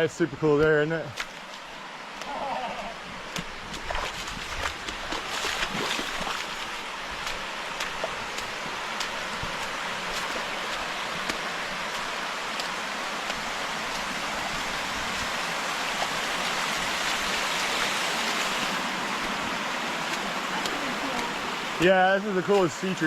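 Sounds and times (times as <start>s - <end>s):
creek water rushing over rock: 0.0s - 23.0s.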